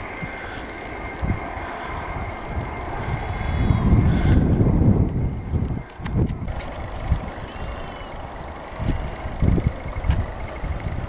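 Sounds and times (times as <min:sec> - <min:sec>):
electric train whine: 0:00.0 - 0:11.0
low uneven rumble: 0:00.0 - 0:11.0.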